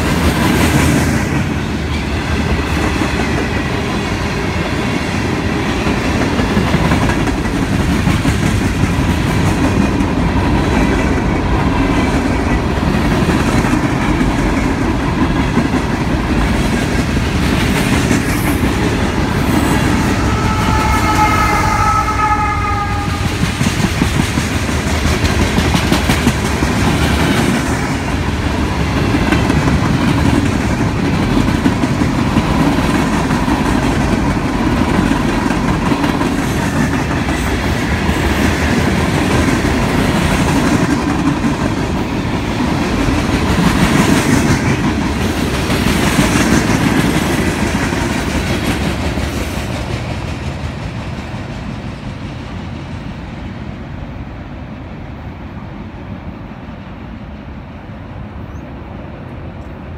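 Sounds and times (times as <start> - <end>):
rumbling roar of freight train: 0.0 - 59.9.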